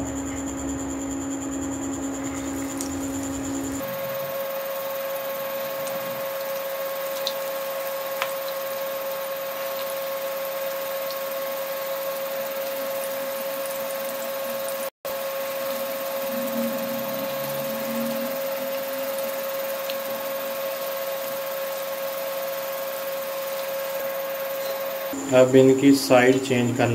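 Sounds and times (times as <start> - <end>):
electric cooktop hum: 0.0 - 26.9
deep-frying sizzle in oil: 2.0 - 25.2.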